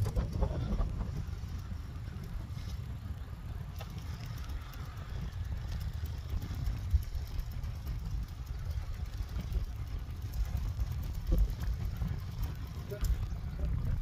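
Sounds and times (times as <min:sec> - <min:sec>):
bicycle tyre noise on road: 0:00.0 - 0:14.0
wind buffeting microphone: 0:00.0 - 0:14.0.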